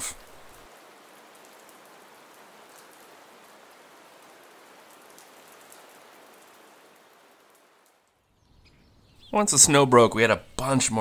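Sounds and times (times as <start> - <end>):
rain-like outdoor hiss: 0.0 - 11.0.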